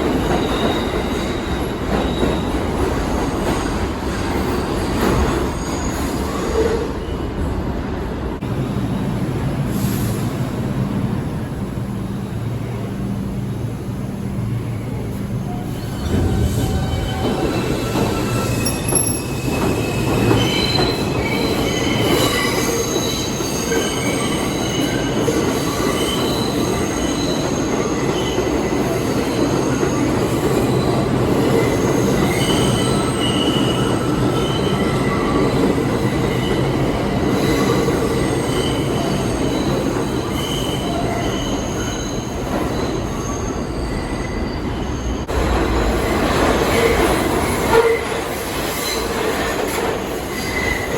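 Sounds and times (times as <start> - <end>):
train wheels squealing on rails: 0.0 - 7.6, 14.4 - 50.9
subway train rumble: 0.0 - 50.9.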